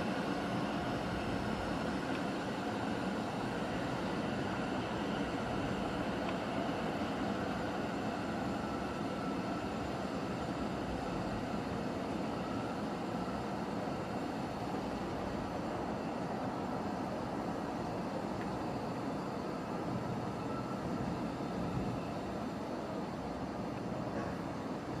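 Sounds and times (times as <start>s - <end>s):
steady rumble and hiss: 0.0s - 25.0s.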